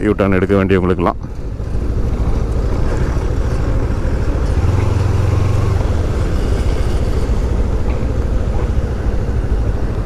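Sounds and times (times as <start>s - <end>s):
low hum: 0.0s - 10.0s
wind and road noise: 0.0s - 10.0s
motorcycle engine running: 1.2s - 10.0s.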